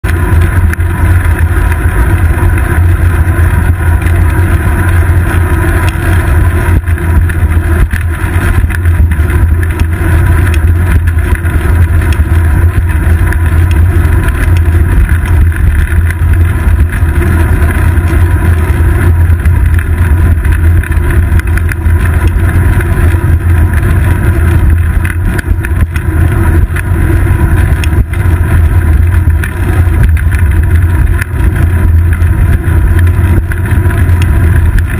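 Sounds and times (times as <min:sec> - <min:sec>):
road vibration rumble: 0:00.0 - 0:34.9
wind rumble: 0:00.0 - 0:34.9.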